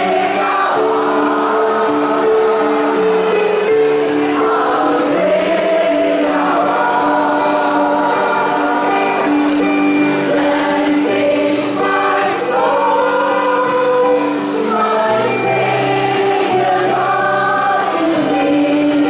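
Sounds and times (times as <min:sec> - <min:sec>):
crowd singing in unison: 0:00.0 - 0:19.0.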